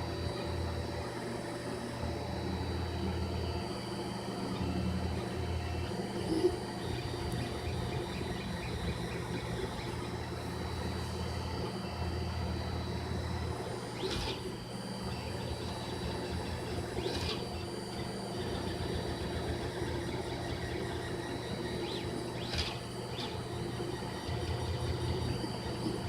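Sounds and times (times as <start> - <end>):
printer motor whines: 0.0 - 26.0.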